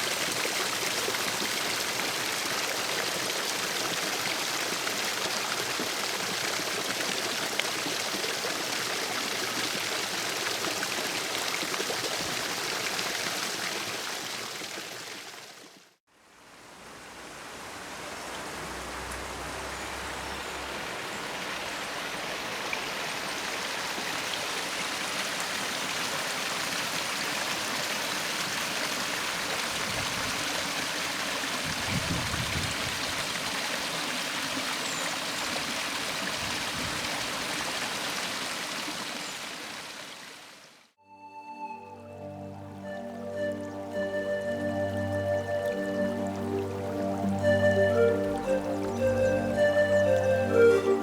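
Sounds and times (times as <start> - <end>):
running water rushing: 0.0 - 41.0, 41.8 - 51.0.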